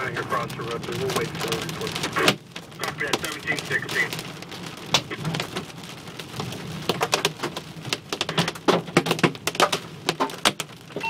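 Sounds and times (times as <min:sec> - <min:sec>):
hail pelting car roof: 0:00.0 - 0:11.0.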